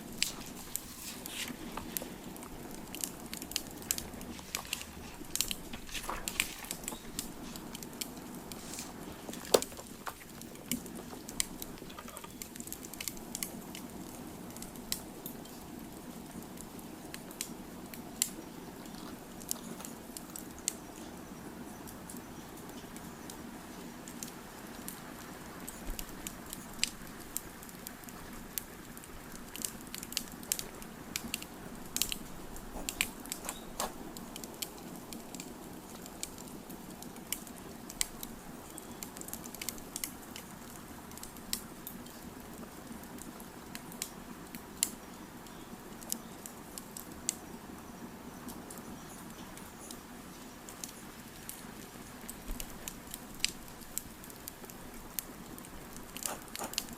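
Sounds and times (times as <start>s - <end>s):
low rush of fire: 0.0s - 22.2s, 23.3s - 47.8s
wood fire crackling and popping: 0.0s - 56.9s.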